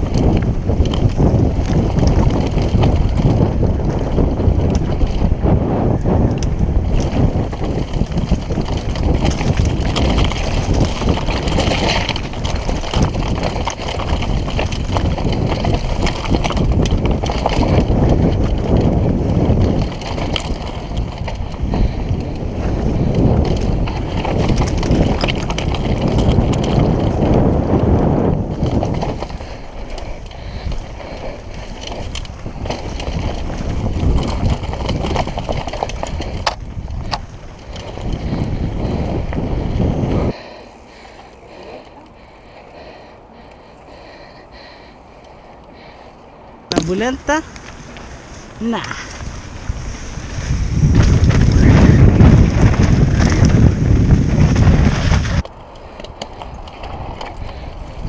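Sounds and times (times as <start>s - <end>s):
bike tyres rattling over rock: 0.0s - 58.0s
wind buffeting microphone: 0.0s - 58.0s.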